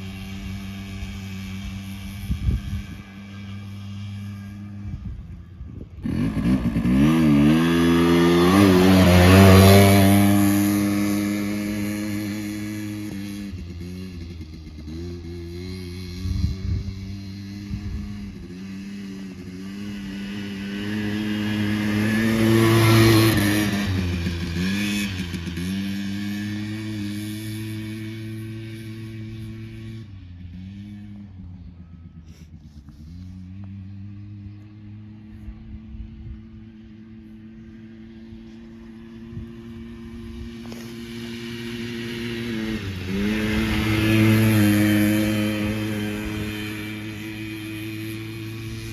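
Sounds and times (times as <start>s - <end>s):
quad bike engine running: 0.0s - 48.9s.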